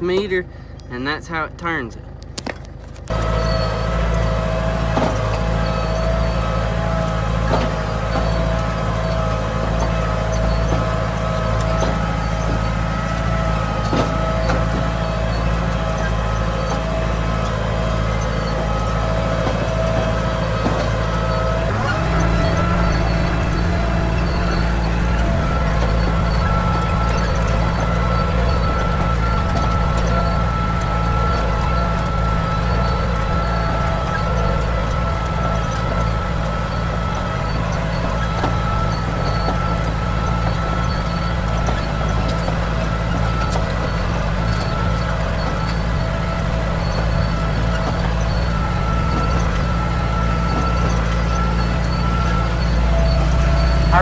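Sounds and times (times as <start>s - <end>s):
tractor diesel engine running: 0.0s - 54.0s
steady whine: 9.3s - 54.0s.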